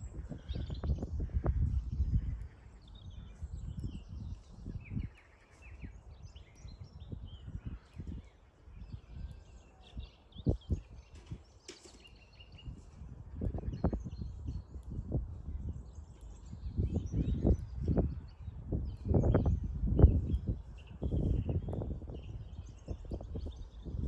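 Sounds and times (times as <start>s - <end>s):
small birds chirping: 0.0s - 24.0s
wind buffeting microphone: 0.0s - 24.0s.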